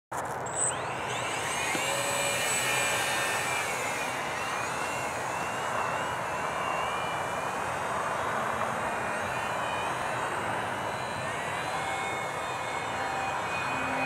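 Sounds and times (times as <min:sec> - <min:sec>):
model plane motor whining: 0:00.2 - 0:14.0.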